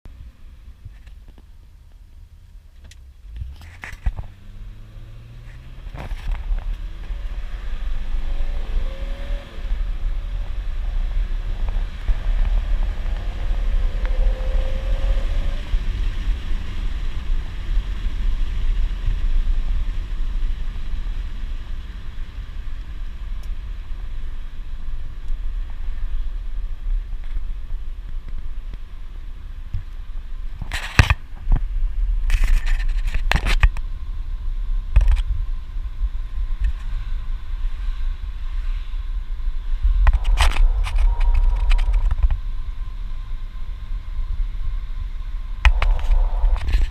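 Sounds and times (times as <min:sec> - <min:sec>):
road and wind noise: 0:00.0 - 0:46.9
car engine accelerating: 0:02.8 - 0:28.6, 0:33.8 - 0:46.9.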